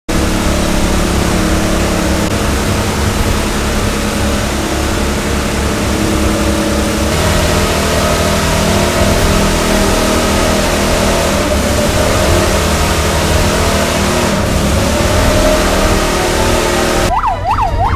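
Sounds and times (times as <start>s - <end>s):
engine running: 0.0s - 17.9s.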